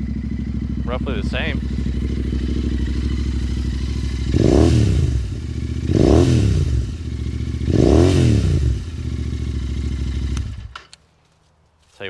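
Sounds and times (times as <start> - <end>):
motorcycle engine idling and revving: 0.0 - 10.9.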